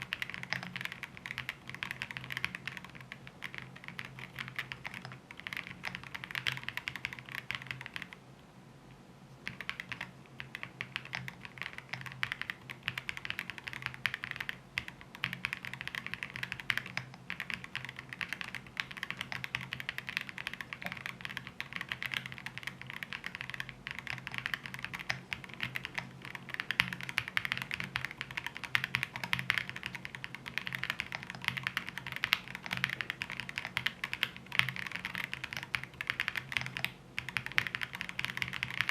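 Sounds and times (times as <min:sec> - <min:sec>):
mechanical keyboard typing: 0:00.0 - 0:08.2, 0:09.4 - 0:38.9.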